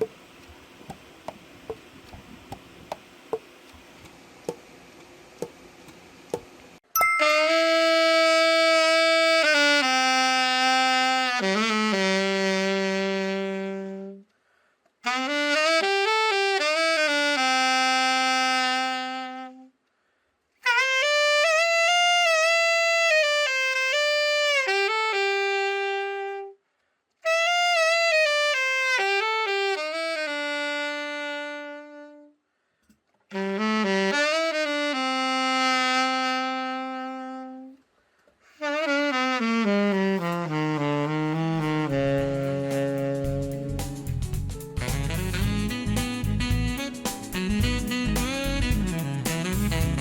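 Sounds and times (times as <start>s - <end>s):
alto saxophone solo: 7.2s - 19.8s, 20.6s - 26.6s, 27.2s - 32.4s, 33.3s - 50.0s.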